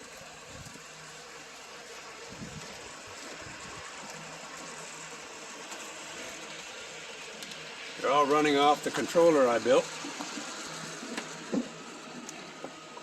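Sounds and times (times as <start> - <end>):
model train rushing noise: 0.0 - 13.0.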